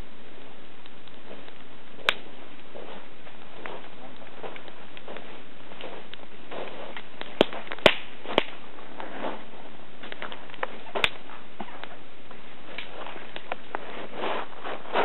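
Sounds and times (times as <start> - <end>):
campfire crackling: 0.0 - 15.0
sharp pops of fire: 0.0 - 15.0.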